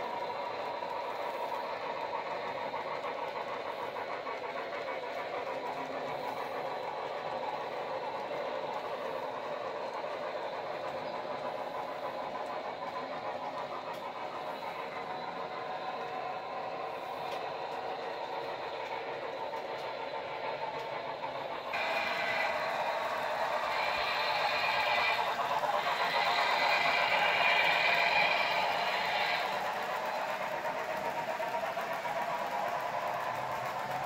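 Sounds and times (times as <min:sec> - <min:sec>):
model train wheels clattering: 0:00.0 - 0:34.0.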